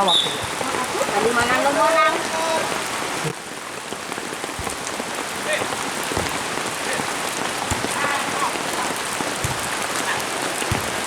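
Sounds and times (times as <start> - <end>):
heavy rain falling: 0.0 - 11.0
raindrops knocking: 0.0 - 11.0.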